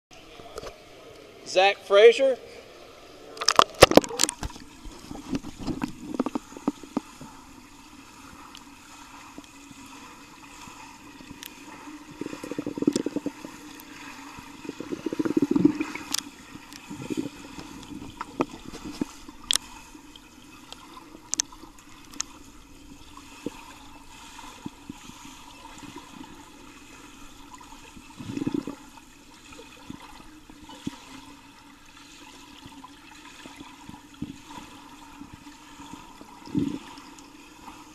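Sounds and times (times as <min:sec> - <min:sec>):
underwater churning and bubbling: 0:02.5 - 0:37.9.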